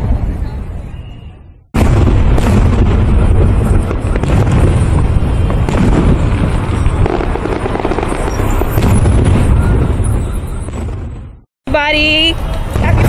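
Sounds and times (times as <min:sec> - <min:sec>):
fireworks bursting: 0:01.8 - 0:13.0.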